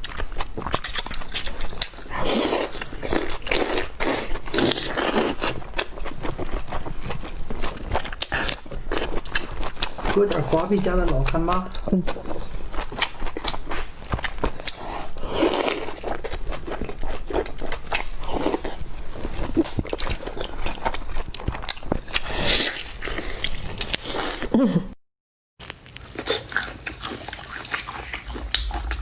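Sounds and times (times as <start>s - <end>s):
person chewing and crunching: 0.0s - 24.5s, 25.6s - 29.0s.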